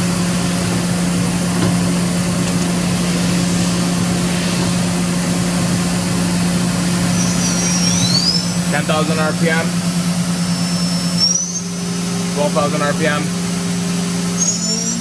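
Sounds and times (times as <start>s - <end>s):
machining center humming: 0.0s - 15.0s.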